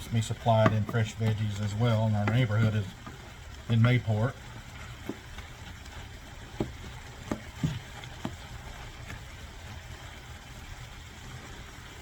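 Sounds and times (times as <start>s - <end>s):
food bubbling in a pan: 0.0s - 12.0s.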